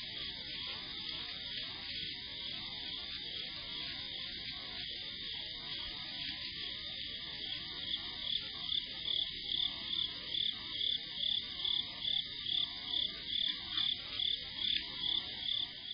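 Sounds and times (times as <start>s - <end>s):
high-pitched insect trill: 0.0s - 15.9s
insect chirping evenly: 0.0s - 15.9s.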